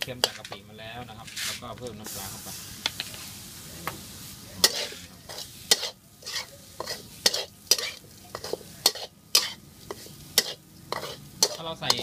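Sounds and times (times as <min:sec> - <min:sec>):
metal spatula scraping a wok: 0:00.0 - 0:02.7, 0:04.0 - 0:12.0.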